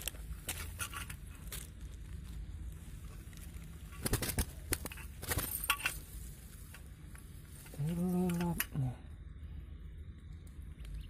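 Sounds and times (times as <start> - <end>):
rustling of grass and net: 0.0 - 8.9.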